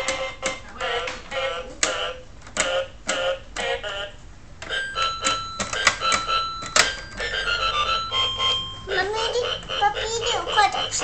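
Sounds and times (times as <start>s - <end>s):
toy keyboard animal sound notes: 0.0s - 11.0s.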